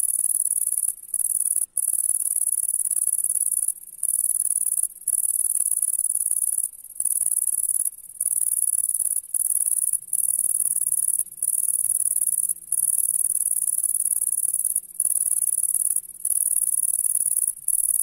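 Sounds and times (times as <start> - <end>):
bush-cricket buzzing trill: 0.0 - 18.0.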